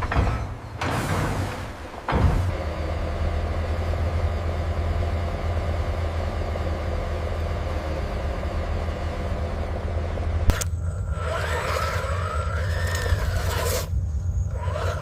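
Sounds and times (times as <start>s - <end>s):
engine-like drone: 2.1s - 15.0s.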